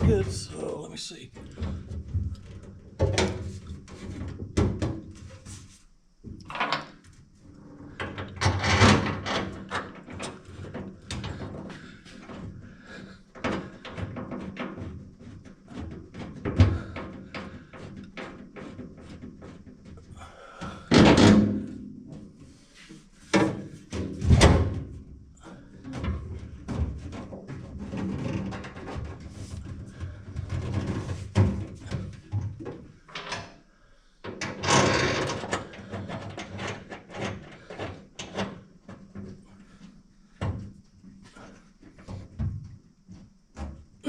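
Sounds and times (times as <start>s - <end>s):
knocks and clanks of gas tank: 1.4s - 5.3s, 8.0s - 22.3s, 23.3s - 33.4s, 35.2s - 44.0s.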